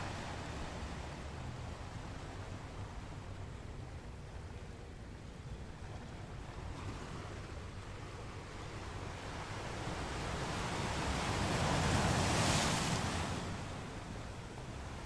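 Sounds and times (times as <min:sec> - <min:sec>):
low rumble of surf: 0:00.0 - 0:15.0.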